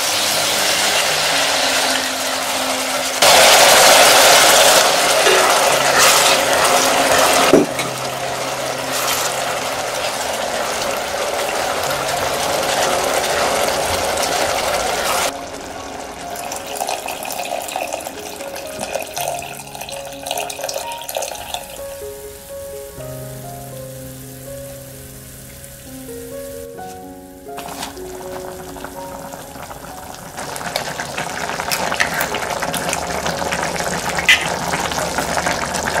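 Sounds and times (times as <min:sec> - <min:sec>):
food sizzling in hot oil: 0:00.0 - 0:36.0
soft background music: 0:00.0 - 0:36.0.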